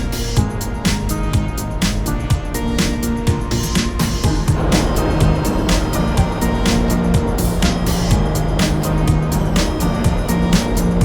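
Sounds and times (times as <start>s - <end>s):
music with steady drum beat: 0.0s - 11.0s.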